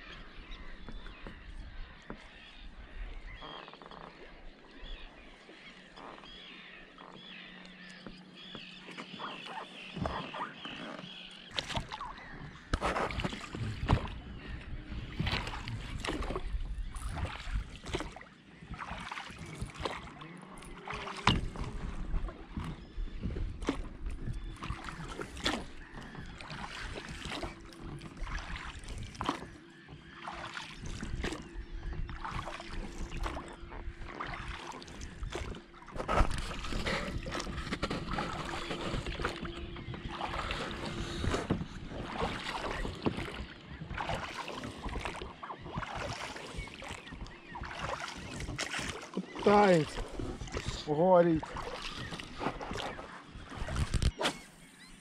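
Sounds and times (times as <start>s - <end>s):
oars dipping and splashing: 0.0s - 55.0s
water sloshing around a boat: 0.0s - 55.0s.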